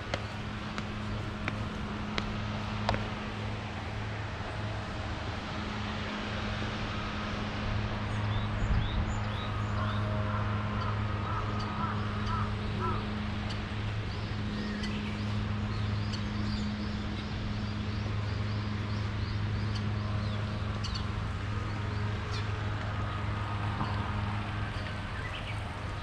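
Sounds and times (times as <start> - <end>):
low constant hum: 0.0 - 26.0
steady rushing background: 0.0 - 26.0.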